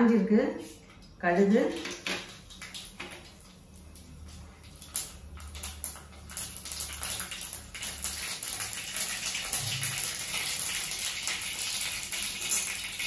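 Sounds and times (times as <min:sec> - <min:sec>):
mustard seeds popping in hot oil: 0:01.7 - 0:04.0, 0:04.6 - 0:13.0.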